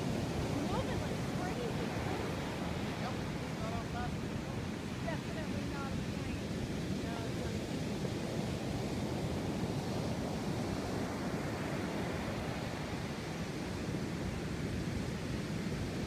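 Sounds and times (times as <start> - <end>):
ocean surf rushing: 0.0 - 16.0
wind buffeting microphone: 0.0 - 16.0.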